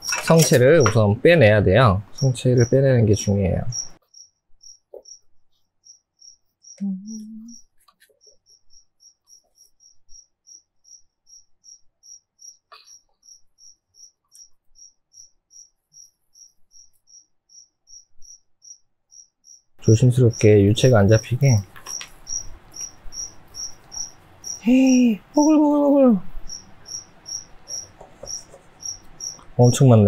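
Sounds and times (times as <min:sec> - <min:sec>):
cricket chirping: 0:01.8 - 0:30.0.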